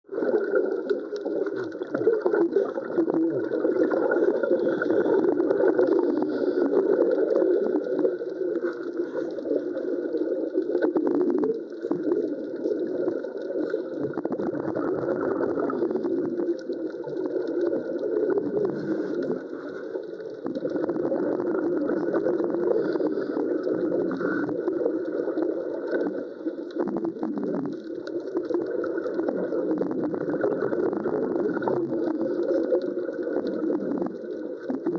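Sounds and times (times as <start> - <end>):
underwater bubbling and gurgling: 0.0 - 34.9.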